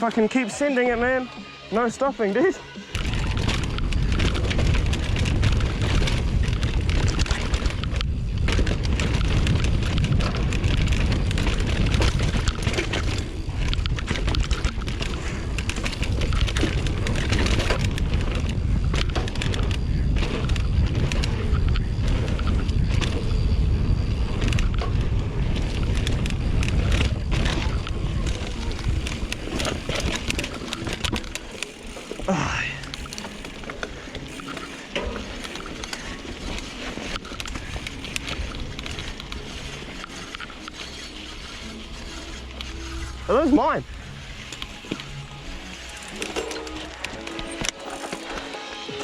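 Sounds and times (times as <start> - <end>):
wind buffeting microphone: 2.9 - 45.7
tyre roar on dirt: 2.9 - 48.6
bike clattering over bumps: 3.0 - 48.6.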